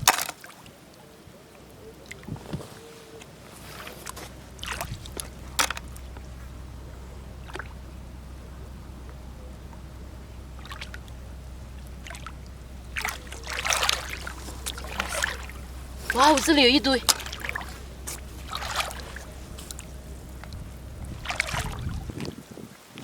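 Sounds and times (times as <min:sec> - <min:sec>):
splashes from wading: 0:00.0 - 0:22.6
steady low rumble: 0:00.8 - 0:22.7.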